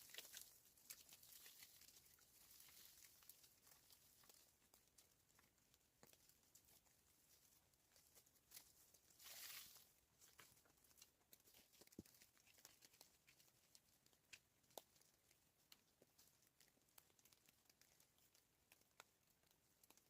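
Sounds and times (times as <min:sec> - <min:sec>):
soft rustle: 0:00.0 - 0:20.0.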